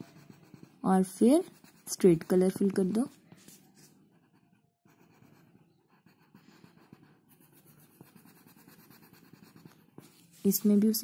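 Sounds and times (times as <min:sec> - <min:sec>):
pen scratching on paper: 0:00.0 - 0:11.0.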